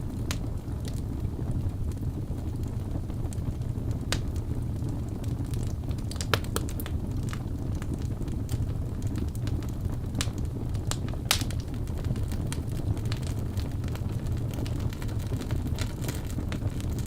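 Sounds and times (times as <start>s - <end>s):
flames rumbling: 0.0s - 17.0s
logs crackling and popping: 0.0s - 17.0s.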